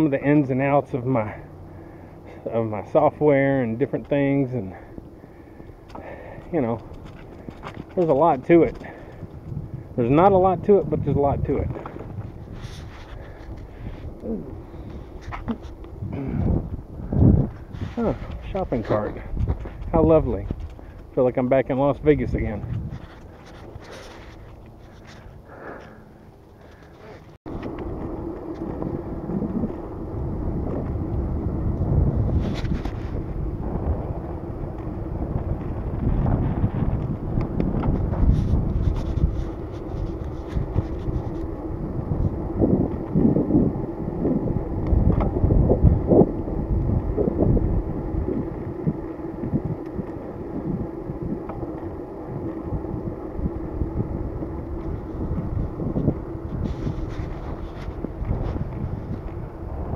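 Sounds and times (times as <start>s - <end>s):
steady low hum: 0.0s - 59.9s
wind rushing over microphone: 0.0s - 59.9s.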